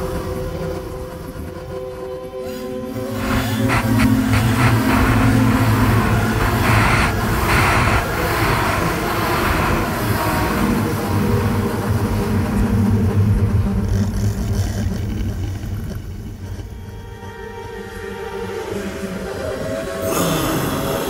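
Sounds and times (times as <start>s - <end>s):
hissing noise layer: 0.0s - 21.0s
low electronic drone: 0.0s - 21.0s.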